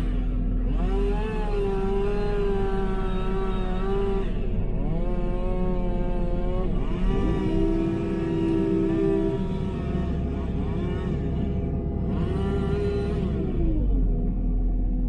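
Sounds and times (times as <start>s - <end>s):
chainsaw revving and cutting: 0.0s - 13.8s
diesel engine running: 0.0s - 15.0s.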